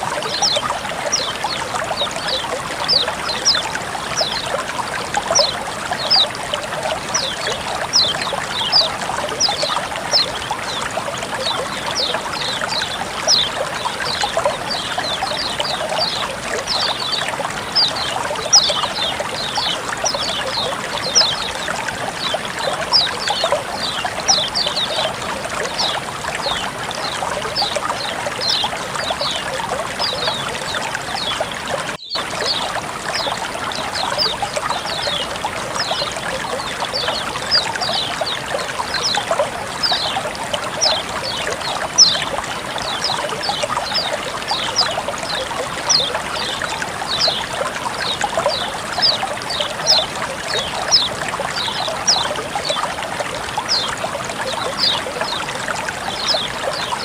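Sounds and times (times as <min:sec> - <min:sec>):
small birds chirping: 0:00.0 - 0:57.0
water trickling and splashing: 0:00.0 - 0:57.0.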